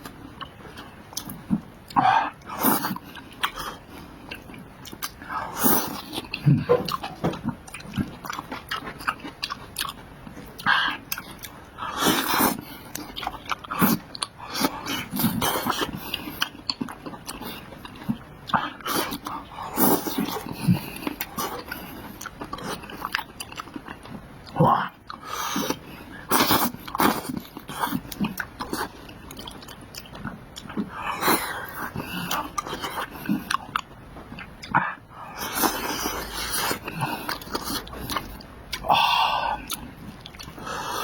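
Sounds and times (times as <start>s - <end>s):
person chewing and biting food: 0.0s - 41.0s.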